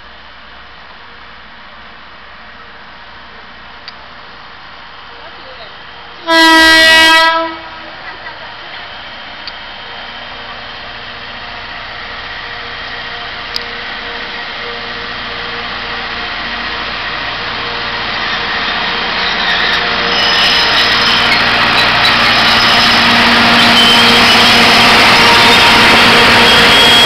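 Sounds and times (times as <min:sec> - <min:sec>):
diesel locomotive engine hum: 0:00.0 - 0:27.0.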